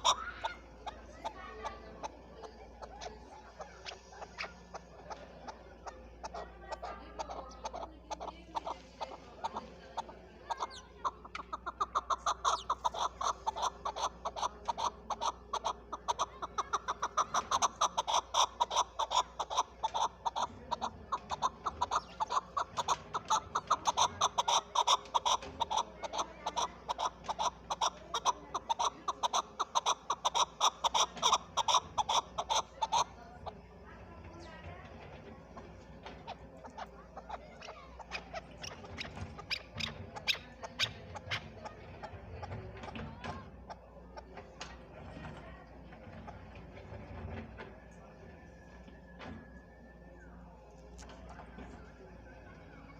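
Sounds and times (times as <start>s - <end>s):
partridge clucking calls: 0.0s - 52.9s.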